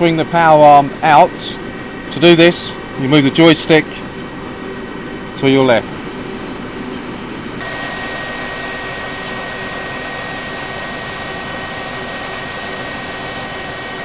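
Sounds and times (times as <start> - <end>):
thin steady whine: 0.0 - 14.0
truck engine and hydraulics drone: 0.0 - 14.0.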